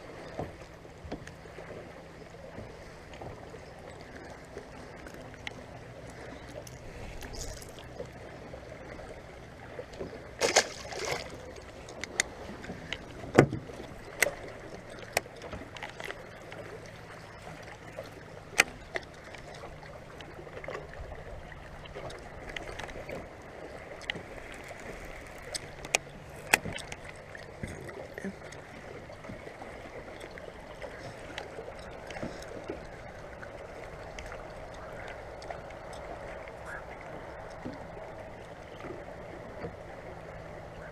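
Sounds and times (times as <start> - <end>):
water lapping around boat: 0.0 - 40.9.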